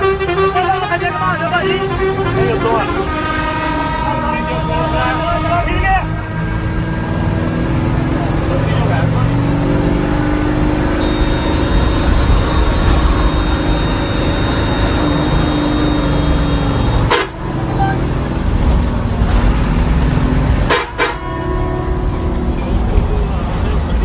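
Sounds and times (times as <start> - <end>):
road traffic noise: 0.0 - 24.0
vehicle horns: 0.0 - 24.0.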